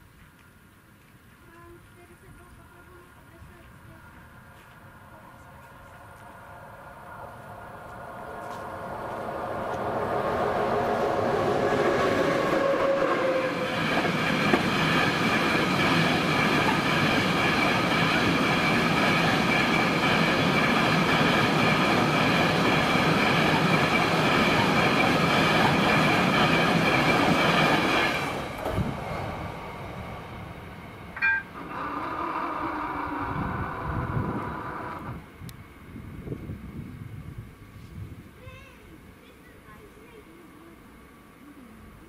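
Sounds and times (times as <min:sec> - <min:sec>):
train wheels rumbling on rails: 0:01.6 - 0:37.6
steady high whine: 0:03.0 - 0:42.0.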